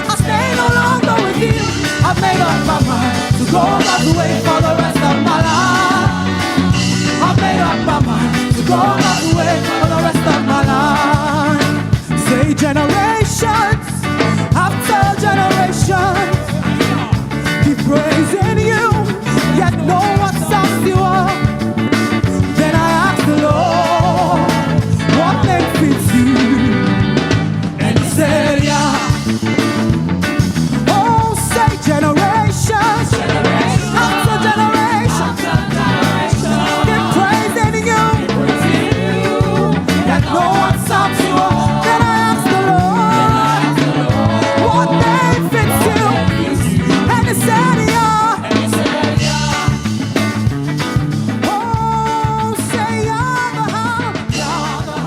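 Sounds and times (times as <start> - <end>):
bass: 0.0 - 55.0
drums: 0.0 - 55.0
worship band playing: 0.0 - 55.0.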